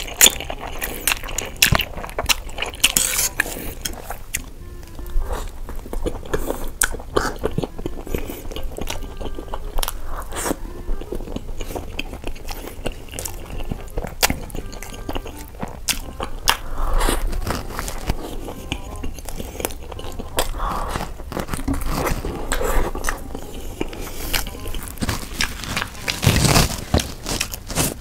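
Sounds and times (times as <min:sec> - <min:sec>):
wet chewing with clicks and smacks: 0:00.0 - 0:28.0.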